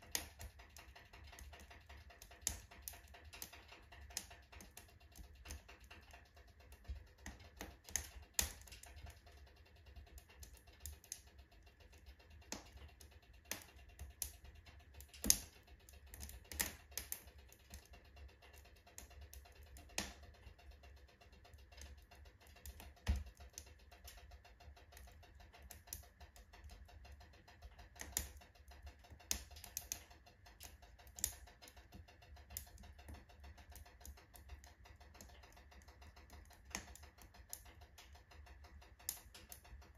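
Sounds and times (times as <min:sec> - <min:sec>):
firewood crackling and popping: 0:00.0 - 0:20.9, 0:21.5 - 0:39.9.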